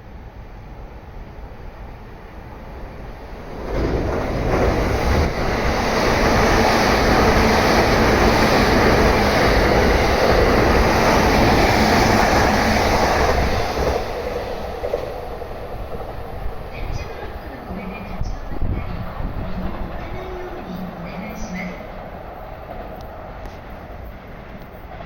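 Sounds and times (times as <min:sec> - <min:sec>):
train wheels rumbling on rails: 0:03.0 - 0:25.0.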